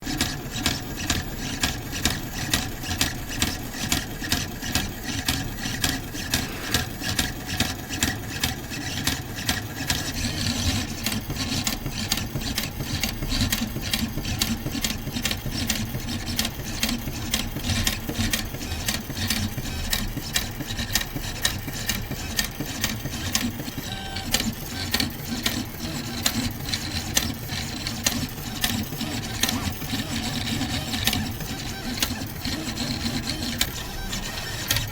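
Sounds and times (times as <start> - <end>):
pen plotter motors clicking: 0.0 - 34.9.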